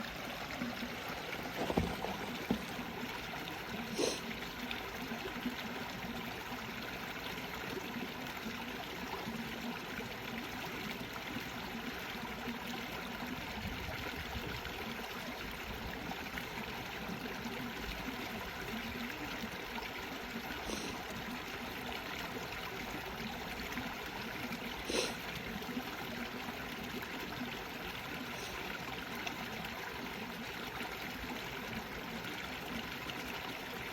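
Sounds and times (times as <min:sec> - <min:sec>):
brook babbling and trickling: 0:00.0 - 0:33.9.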